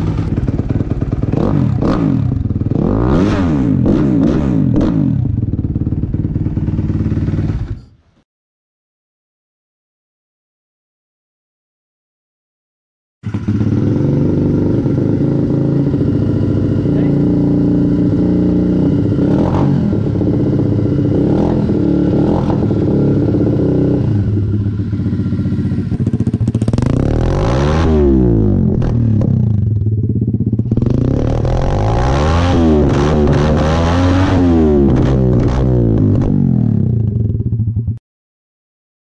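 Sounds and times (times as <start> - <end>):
motorcycle engine idling and revving: 0.0 - 8.2, 13.2 - 38.0.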